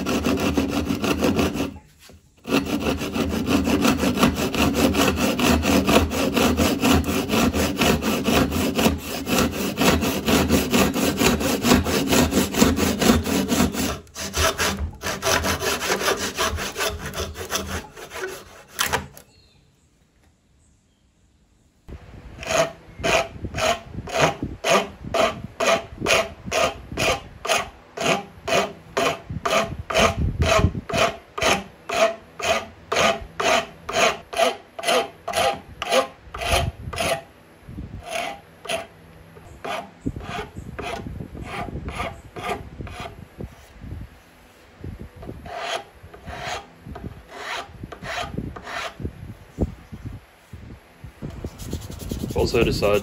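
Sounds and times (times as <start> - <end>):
hand file rasping on wood: 0.0 - 18.9, 22.4 - 37.2, 38.0 - 38.9, 39.6 - 43.2, 45.4 - 46.7, 47.3 - 49.0, 51.6 - 53.0.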